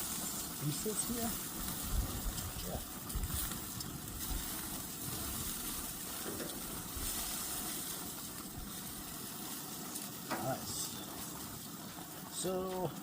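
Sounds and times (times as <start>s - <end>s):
skewers sizzling on a grill: 0.0s - 13.0s.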